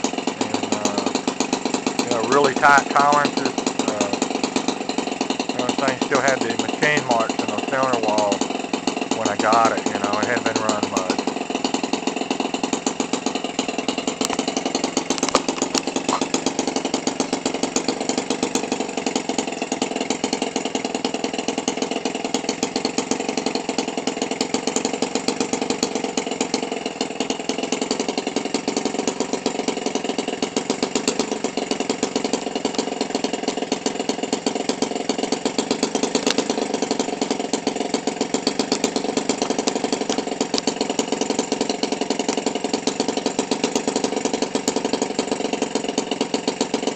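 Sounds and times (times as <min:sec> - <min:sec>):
small engine idling: 0:00.0 - 0:46.9.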